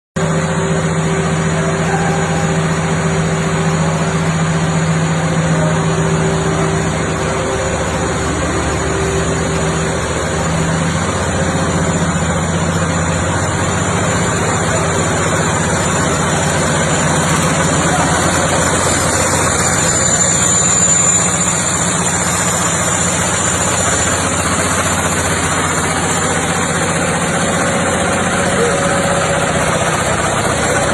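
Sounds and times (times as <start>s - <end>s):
low hum tone: 0.2s - 30.9s
machine clatter: 0.2s - 30.9s
machine mechanical hum: 0.2s - 30.9s
thin high whine: 0.2s - 30.9s.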